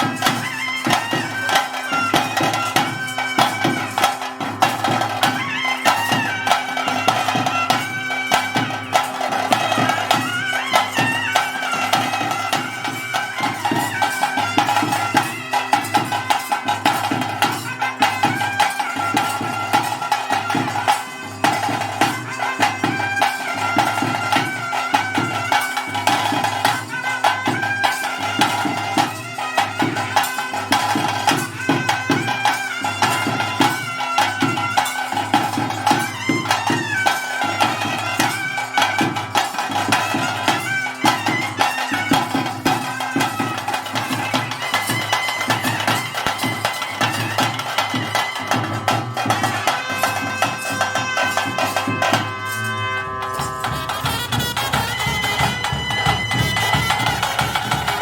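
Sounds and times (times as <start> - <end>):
drums beating: 0.0 - 58.0
reed pipe melody: 0.0 - 58.0.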